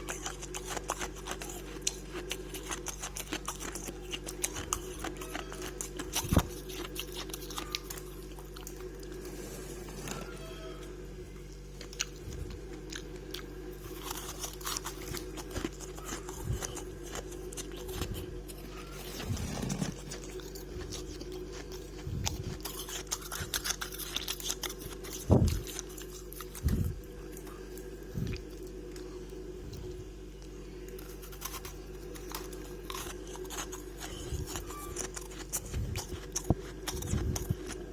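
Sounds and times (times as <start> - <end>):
crunching and chewing frost: 0.0 - 37.9
steady low hum: 0.0 - 37.9.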